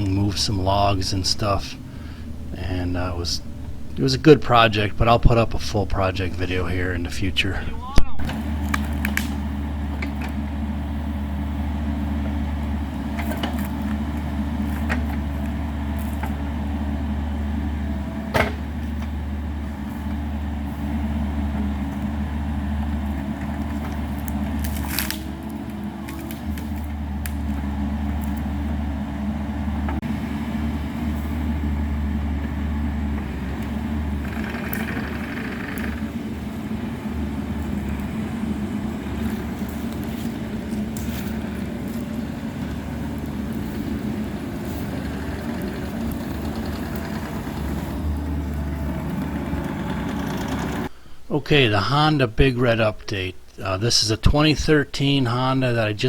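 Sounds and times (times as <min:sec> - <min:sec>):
mini excavator diesel engine: 0:00.0 - 0:51.1.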